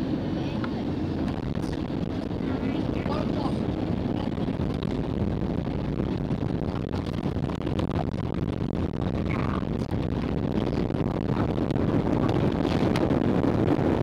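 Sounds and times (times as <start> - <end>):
airplane cabin rumble on runway: 0.0 - 14.0.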